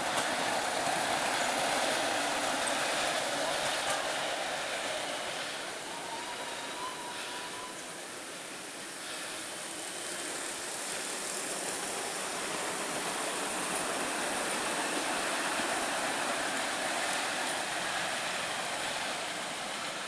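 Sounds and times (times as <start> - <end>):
miniature train wheels on rails: 0.0 - 20.0.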